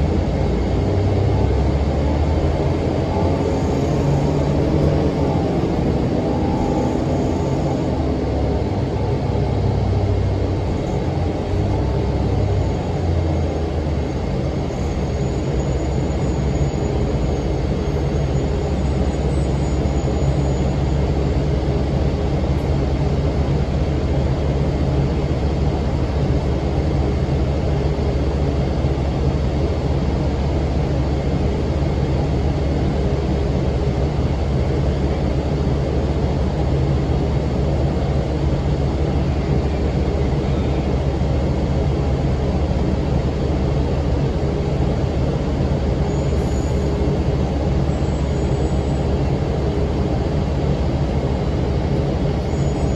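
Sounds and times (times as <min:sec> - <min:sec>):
bus diesel engine drone: 0:00.0 - 0:52.9
engine cooling fan: 0:00.0 - 0:52.9.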